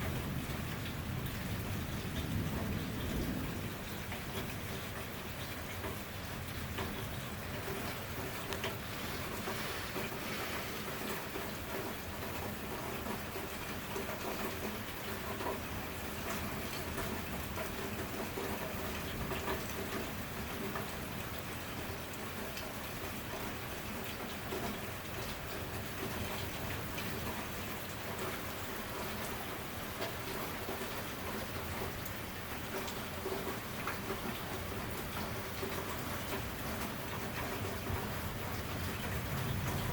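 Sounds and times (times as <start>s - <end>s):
raindrop ticks: 0.0s - 39.9s
steady rain falling: 0.0s - 39.9s.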